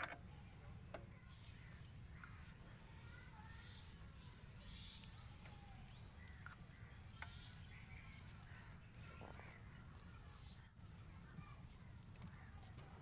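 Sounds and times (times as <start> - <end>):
bird chirps: 1.1 - 11.6.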